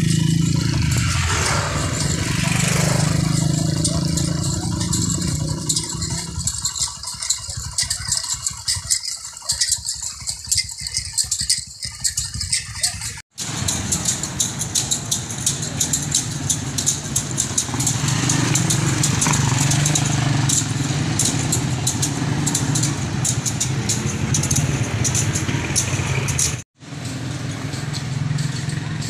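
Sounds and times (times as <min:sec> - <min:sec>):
motorcycle engines passing: 0:00.0 - 0:08.8, 0:12.1 - 0:29.0
flails clacking: 0:00.0 - 0:29.0.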